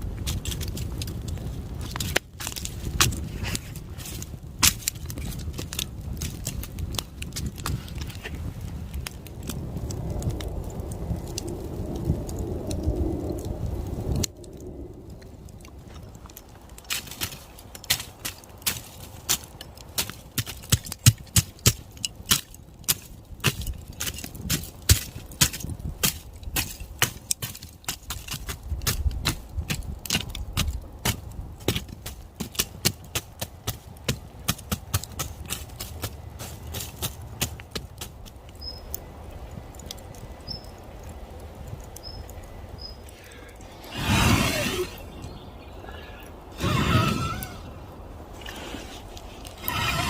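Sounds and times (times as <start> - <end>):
campfire popping and cracking: 0.0 - 50.0.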